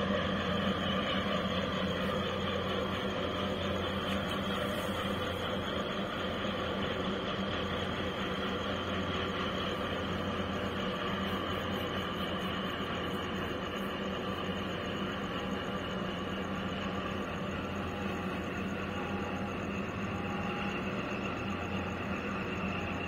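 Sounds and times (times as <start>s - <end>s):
ship diesel engines droning: 0.0s - 23.0s.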